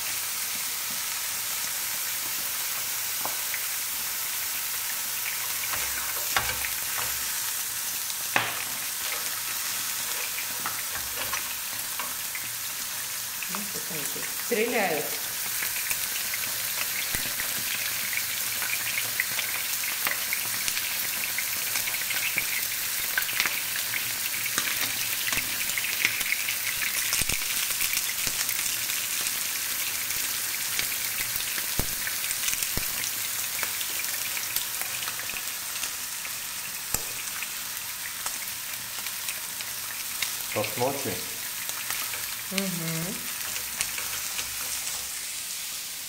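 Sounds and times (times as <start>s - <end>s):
eggplant frying in hot oil: 0.0s - 46.0s.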